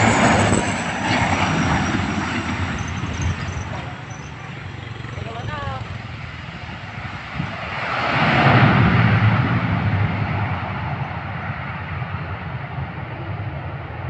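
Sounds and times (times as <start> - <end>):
airliner engines running: 0.0 - 14.0.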